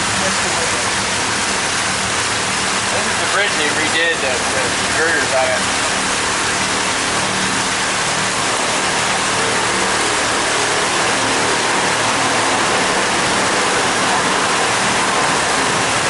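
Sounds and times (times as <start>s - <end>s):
boat motor humming: 0.0s - 16.0s
water rushing along hull: 0.0s - 16.0s.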